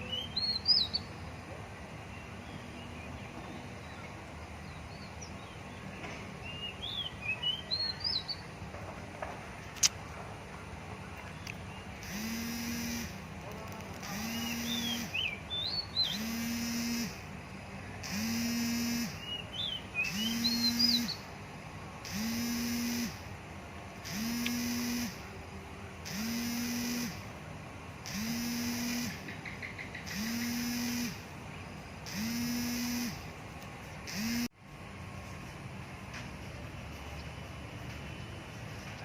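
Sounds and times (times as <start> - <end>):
low buzz with hiss: 0.0 - 39.0.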